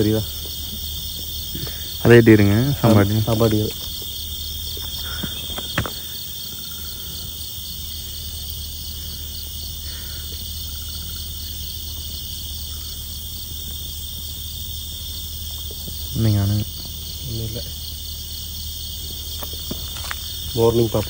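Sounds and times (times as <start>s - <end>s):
crickets and insects trilling: 0.0s - 21.0s.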